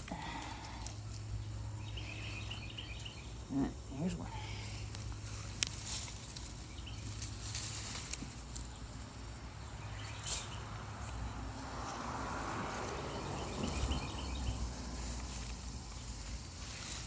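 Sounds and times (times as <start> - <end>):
rustling and scraping of soil: 0.0 - 17.0.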